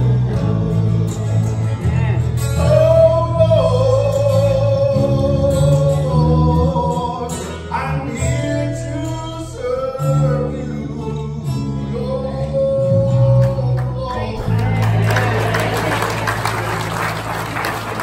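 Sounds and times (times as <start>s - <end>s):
acoustic guitar: 0.0s - 18.0s.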